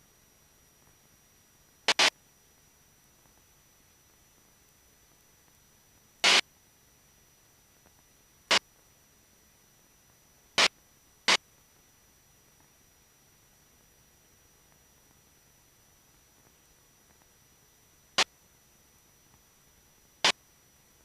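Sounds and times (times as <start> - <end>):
short bursts of static hiss: 0.0 - 21.0.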